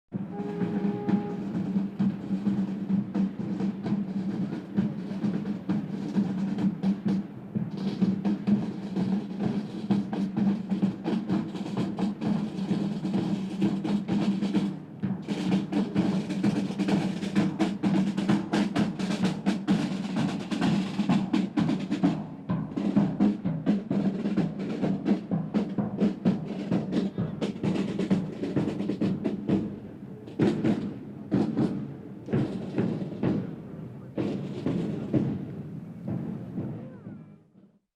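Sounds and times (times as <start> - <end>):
parade drums playing: 0.1 - 37.4.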